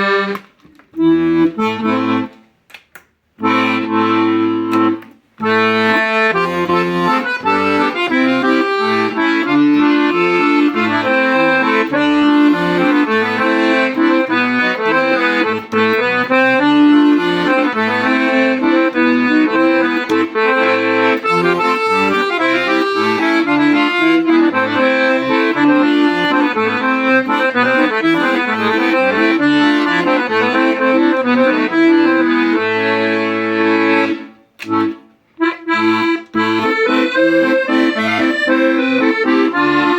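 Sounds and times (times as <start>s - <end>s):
accordion playing a tune: 0.0s - 2.6s, 3.4s - 39.9s.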